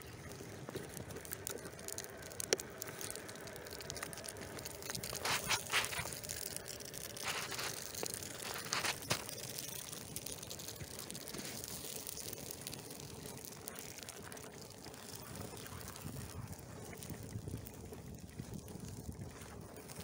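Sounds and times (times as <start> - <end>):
flames crackling and hissing: 0.0 - 20.0.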